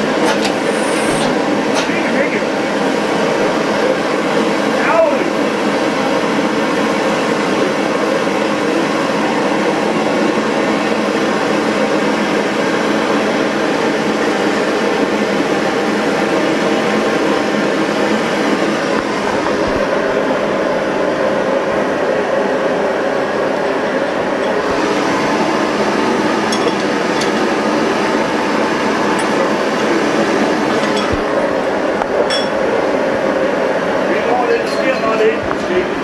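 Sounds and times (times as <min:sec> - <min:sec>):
engine machinery hum: 0:05.4 - 0:34.4.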